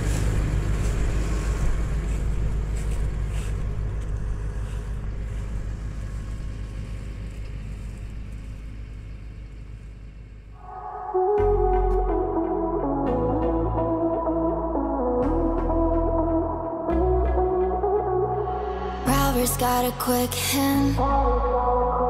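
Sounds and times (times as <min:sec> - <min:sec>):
tractor diesel engine running: 0:00.0 - 0:21.5.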